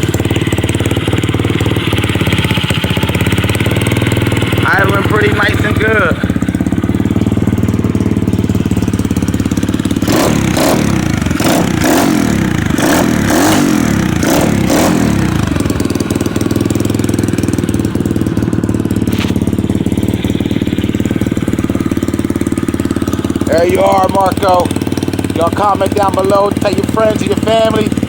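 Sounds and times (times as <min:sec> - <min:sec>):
engine revving: 0:00.0 - 0:28.0
mini bike engine idling: 0:00.0 - 0:28.0.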